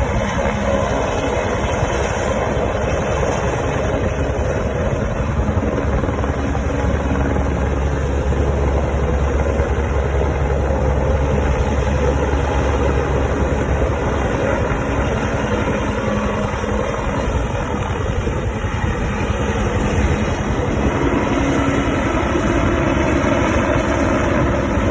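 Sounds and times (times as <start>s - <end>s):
helicopter rotor and turbine: 0.0s - 24.9s.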